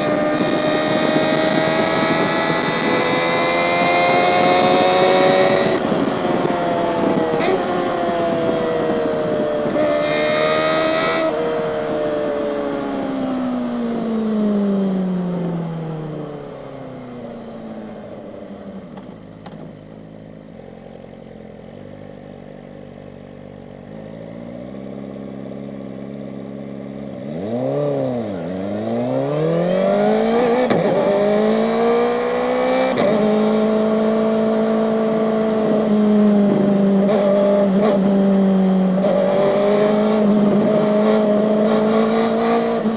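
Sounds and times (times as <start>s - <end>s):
motorcycle engine revving and idling: 0.0s - 16.2s, 17.3s - 42.9s.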